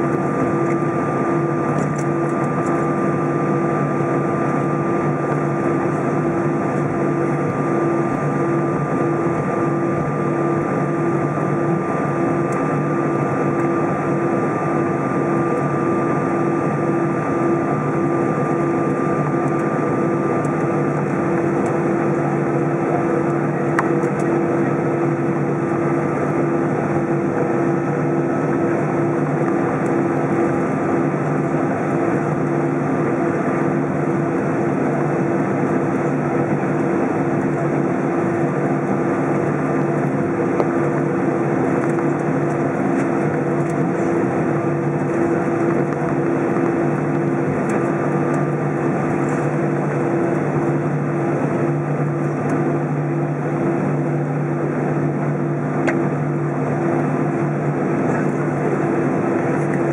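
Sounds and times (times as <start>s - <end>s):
high jet engine whine: 0.0s - 59.9s
jet engine hum: 0.0s - 59.9s.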